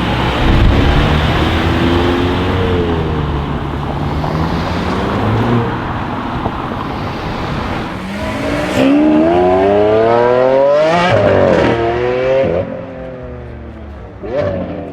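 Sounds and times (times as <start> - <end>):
car engine accelerating hard: 0.0 - 12.8.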